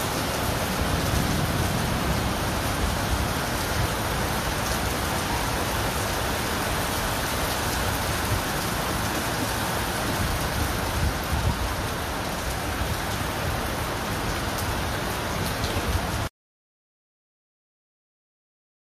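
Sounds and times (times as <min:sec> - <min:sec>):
heavy rain on stone paving: 0:00.0 - 0:16.3.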